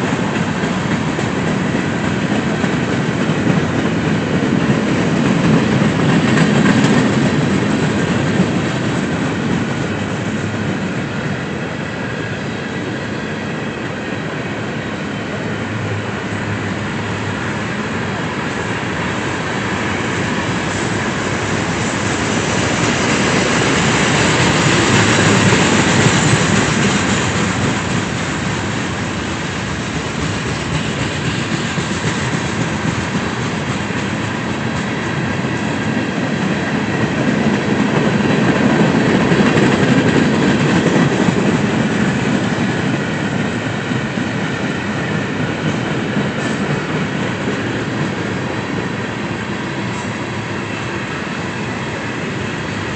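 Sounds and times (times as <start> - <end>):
train rumbling and rattling past: 0.0 - 52.9.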